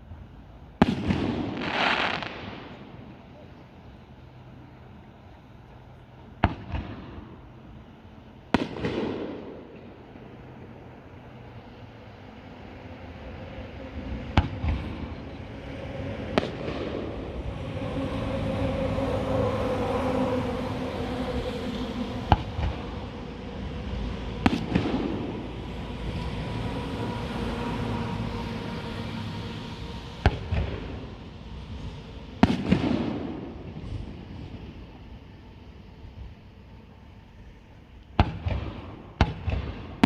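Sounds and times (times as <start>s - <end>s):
fireworks crackling and rumbling: 0.0s - 40.0s
fireworks bangs: 0.2s - 4.0s, 6.3s - 36.2s, 38.1s - 40.0s.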